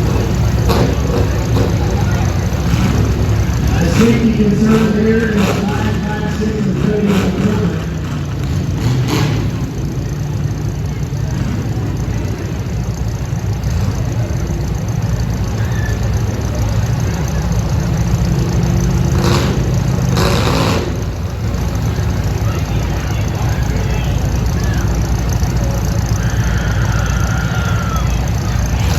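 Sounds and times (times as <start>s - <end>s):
car engines rumbling at low revs: 0.0s - 28.9s.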